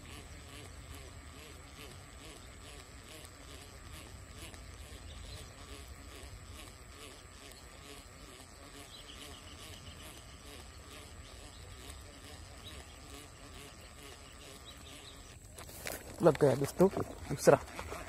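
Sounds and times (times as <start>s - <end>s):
high insect buzz: 0.0s - 18.0s.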